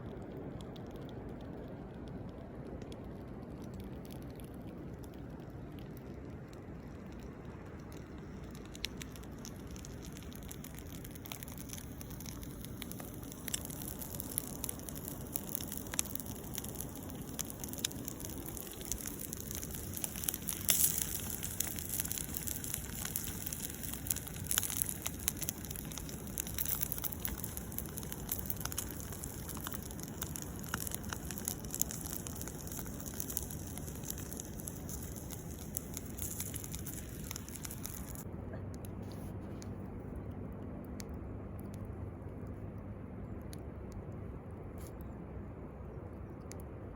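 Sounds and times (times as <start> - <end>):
campfire crackling: 0.0 - 46.9.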